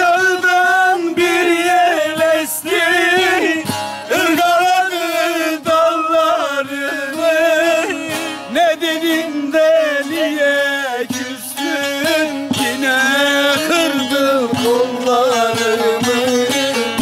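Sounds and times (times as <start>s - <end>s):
long-necked lutes playing: 0.0s - 17.0s
man singing melismatic folk song: 0.0s - 17.0s.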